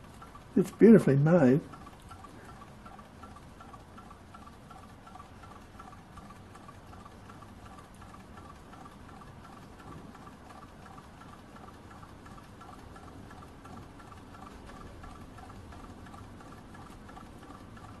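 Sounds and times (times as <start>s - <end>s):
small engine ticking: 0.0s - 18.0s.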